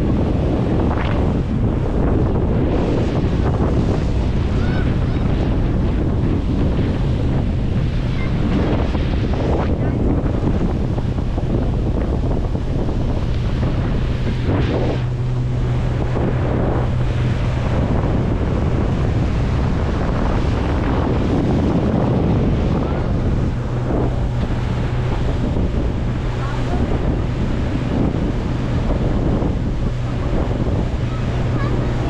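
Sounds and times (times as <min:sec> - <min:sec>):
boat engine drone: 0:00.0 - 0:32.0
water rushing past hull: 0:00.0 - 0:32.0
wind buffeting microphone: 0:00.0 - 0:32.0.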